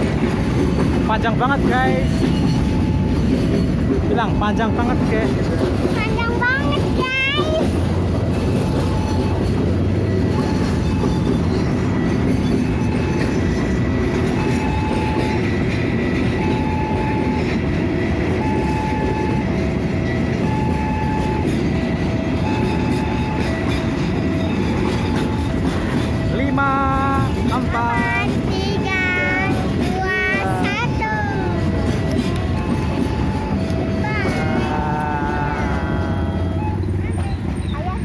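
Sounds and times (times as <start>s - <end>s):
train wagons rumbling over rails: 0.0s - 38.0s.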